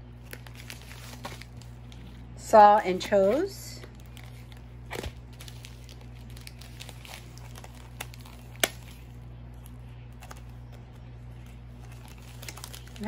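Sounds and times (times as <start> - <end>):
plastic packaging crinkling: 0.0 - 13.0
steady low hum: 0.0 - 13.0.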